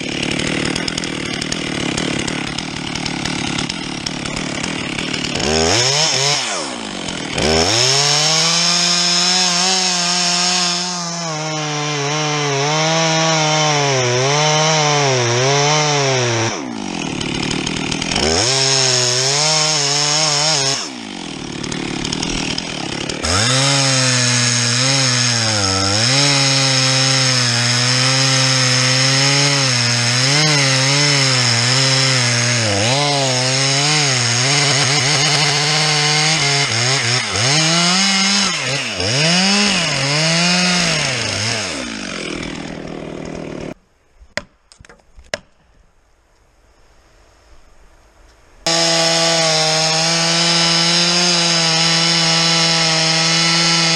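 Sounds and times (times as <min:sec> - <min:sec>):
chainsaw sawing into wood: 0:00.0 - 0:43.8, 0:48.6 - 0:53.9.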